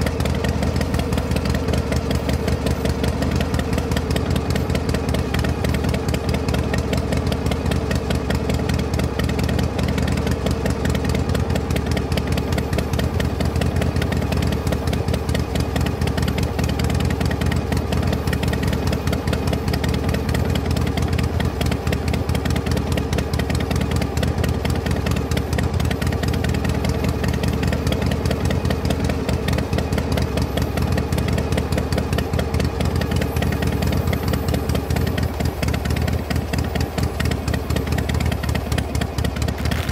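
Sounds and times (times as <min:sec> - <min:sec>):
engine idling with low chug: 0:00.0 - 0:39.9.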